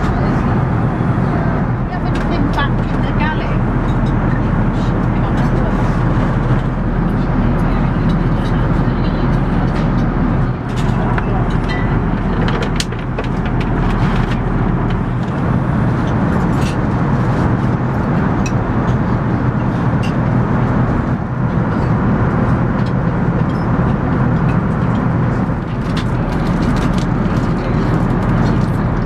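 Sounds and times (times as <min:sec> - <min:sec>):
low drone of engines and airflow: 0:00.0 - 0:29.0.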